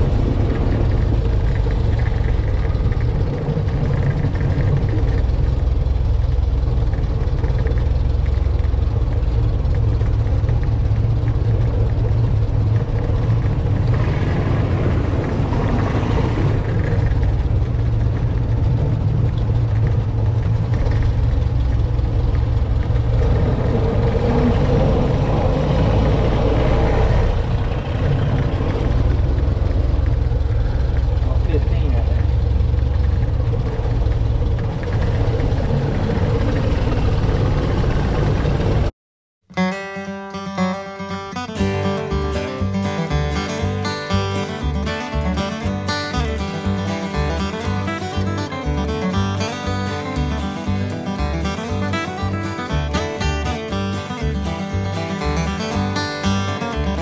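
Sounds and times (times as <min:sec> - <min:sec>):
old car engine running: 0:00.0 - 0:38.9, 0:40.3 - 0:57.0.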